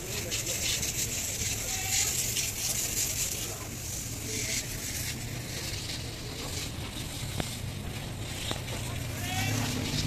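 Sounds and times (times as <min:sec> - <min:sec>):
hiss: 0:00.0 - 0:10.0.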